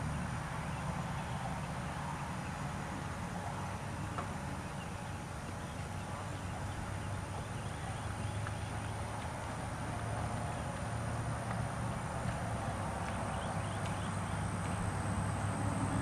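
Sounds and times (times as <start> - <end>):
indoor arena hum and hiss: 0.0 - 16.0
horse hoofbeats trotting: 0.6 - 16.0.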